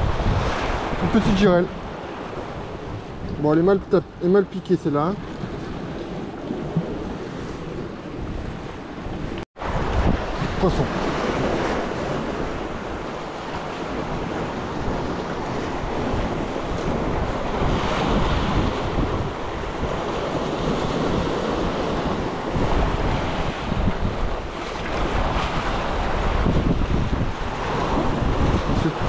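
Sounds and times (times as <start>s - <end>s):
sea waves washing on shore: 0.0s - 29.0s
wind buffeting microphone: 0.0s - 29.0s.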